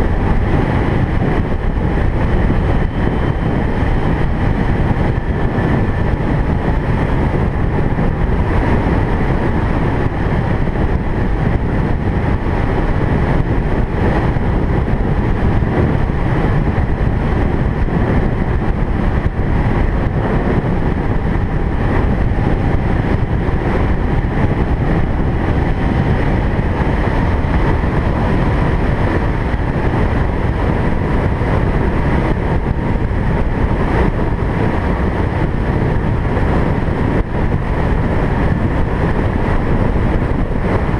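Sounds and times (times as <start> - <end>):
car driving on road: 0.0 - 40.9
wind: 0.0 - 40.9.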